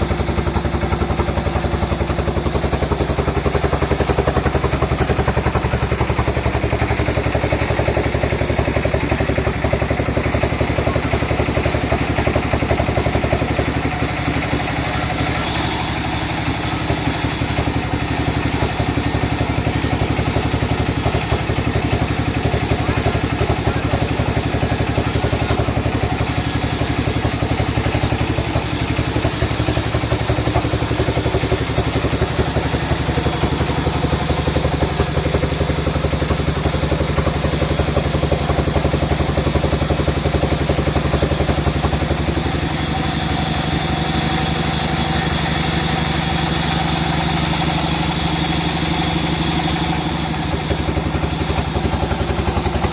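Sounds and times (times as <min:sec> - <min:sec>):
sawmill machinery droning: 0:00.0 - 0:52.9.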